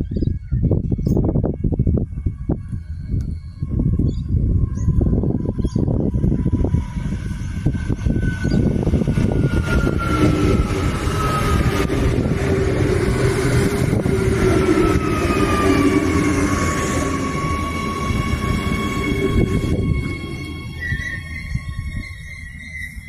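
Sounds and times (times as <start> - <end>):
electric train motors whining: 0.0 - 23.0
train wheels rumbling: 0.0 - 23.0
wind buffeting microphone: 0.0 - 23.0.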